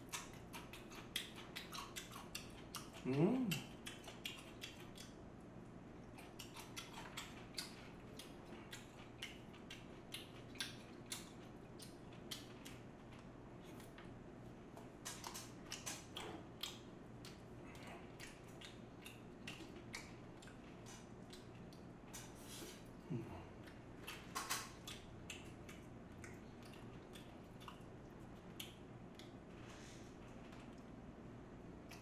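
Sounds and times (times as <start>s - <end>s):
chewing with wet mouth clicks: 0.0s - 29.5s, 30.2s - 31.0s, 31.8s - 32.0s.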